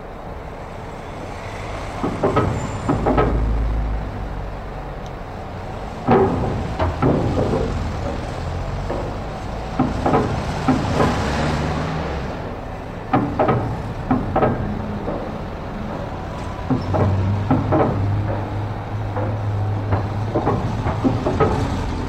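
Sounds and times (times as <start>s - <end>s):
low engine rumble: 0.0s - 22.0s
wheels clanking over metal ramp: 0.2s - 22.0s.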